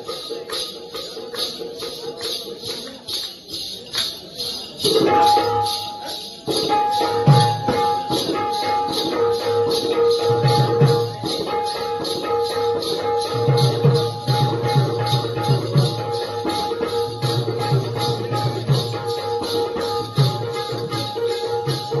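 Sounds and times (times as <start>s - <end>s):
hand cymbals jingling: 0.0s - 22.0s
held melodic tone: 0.0s - 22.0s.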